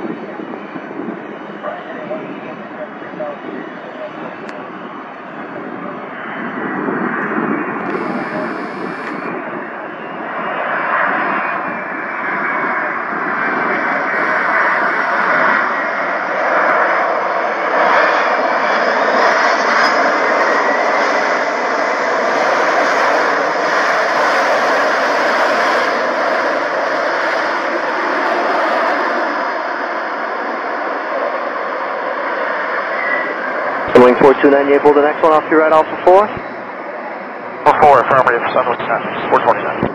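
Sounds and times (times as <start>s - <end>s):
jet engines reverse thrust: 0.0s - 39.9s.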